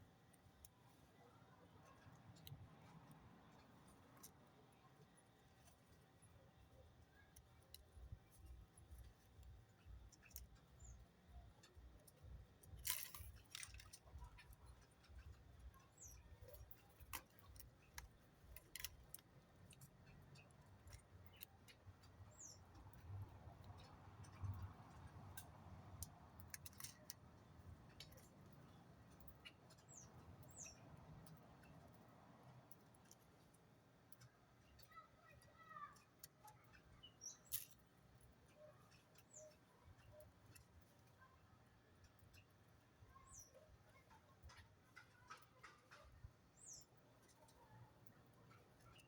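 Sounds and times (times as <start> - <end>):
small birds chirping: 0.0 - 49.0
faint clicks: 0.3 - 41.4, 42.0 - 49.0.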